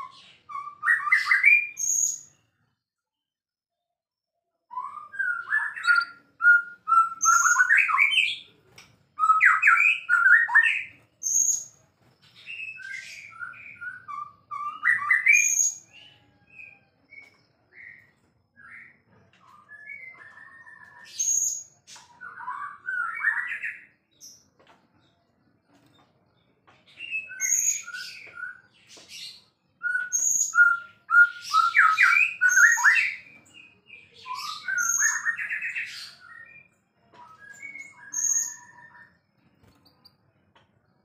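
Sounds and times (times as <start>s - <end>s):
songbird singing varied song: 4.7s - 41.0s.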